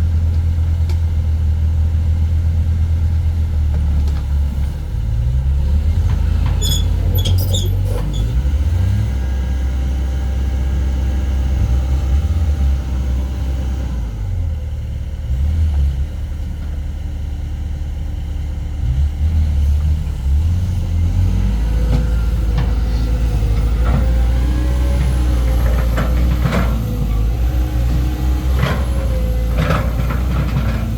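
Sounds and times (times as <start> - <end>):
excavator diesel engine droning: 0.0 - 30.9.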